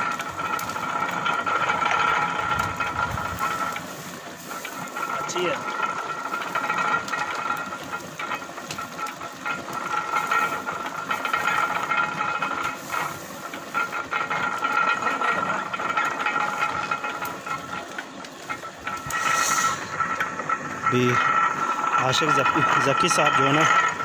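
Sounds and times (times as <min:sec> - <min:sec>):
machine drone: 0:00.0 - 0:24.0
rapid machine clatter: 0:00.0 - 0:24.0.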